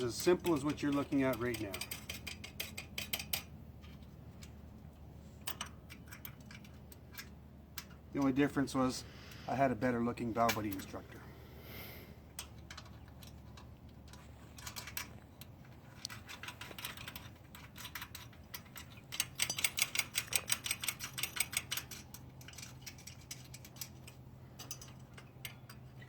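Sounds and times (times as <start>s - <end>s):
metal hardware clicking: 0.1s - 4.6s, 5.4s - 8.4s, 12.3s - 26.0s.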